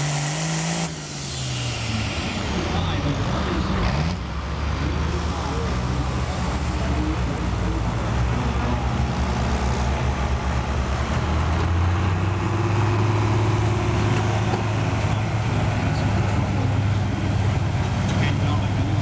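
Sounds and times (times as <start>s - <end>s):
tractor engine running hard: 0.0s - 19.0s.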